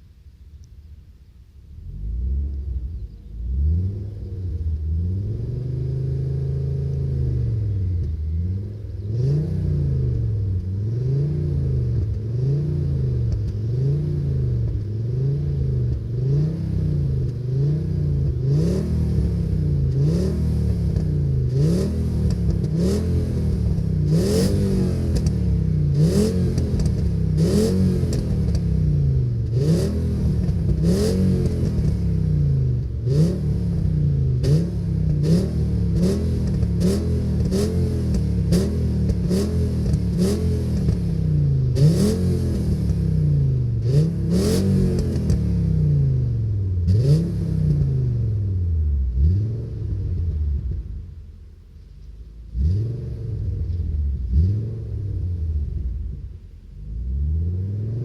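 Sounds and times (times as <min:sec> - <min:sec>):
car engine revving: 0:01.6 - 0:58.0.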